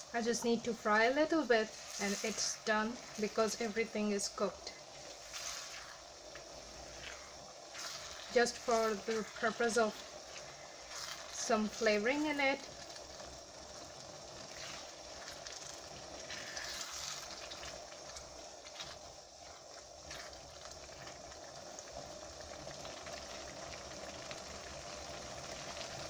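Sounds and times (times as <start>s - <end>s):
curry bubbling in saucepan: 0.0s - 26.0s.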